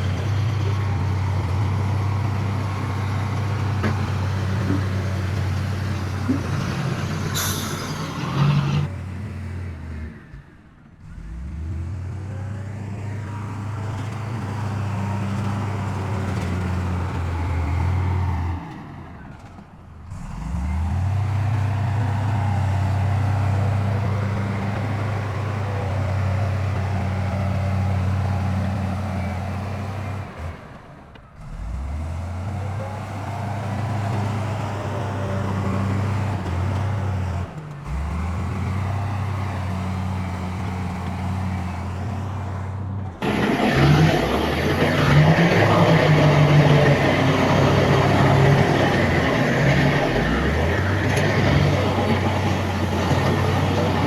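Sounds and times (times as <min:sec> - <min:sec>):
heavy diesel engine running: 0:00.0 - 0:54.0
loud rough engine: 0:00.0 - 0:54.0.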